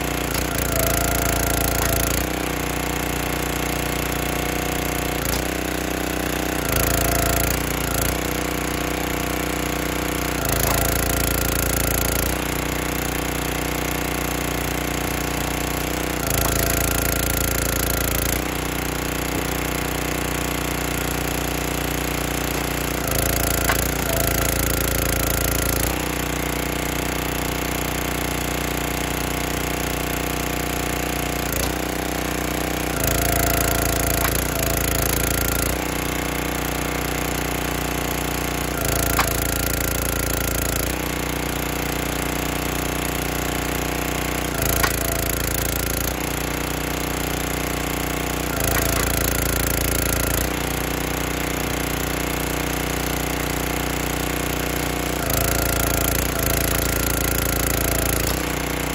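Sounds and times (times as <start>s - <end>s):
log splitter engine running: 0.0s - 58.9s.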